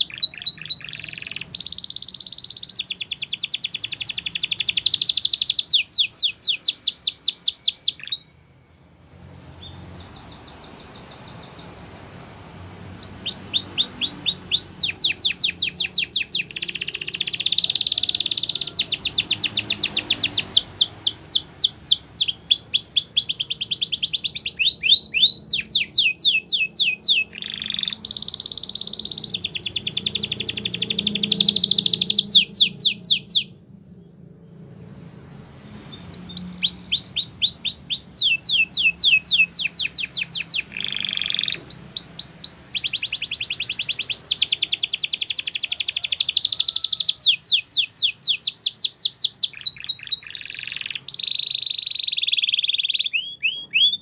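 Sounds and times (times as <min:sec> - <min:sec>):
canary singing fast trills: 0:00.0 - 0:08.5, 0:09.6 - 0:54.0.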